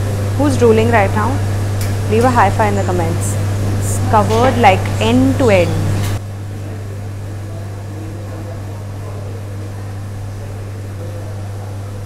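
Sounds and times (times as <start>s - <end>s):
kitchen machinery humming: 0.0s - 12.0s.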